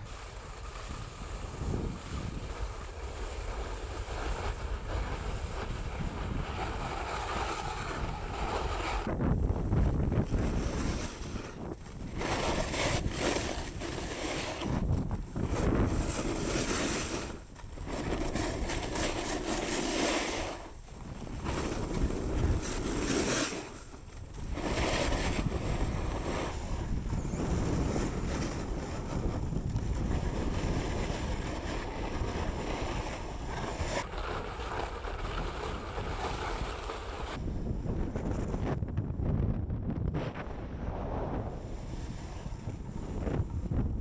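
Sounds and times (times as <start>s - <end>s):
snowboard scraping over snow: 0.0s - 44.0s
wind on microphone: 0.0s - 44.0s.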